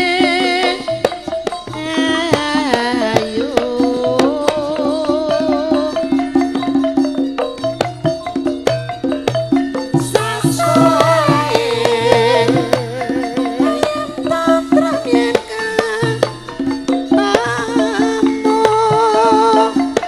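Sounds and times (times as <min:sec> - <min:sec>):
woman singing: 0:00.0 - 0:06.6, 0:09.9 - 0:20.0
hand drum: 0:00.0 - 0:20.0.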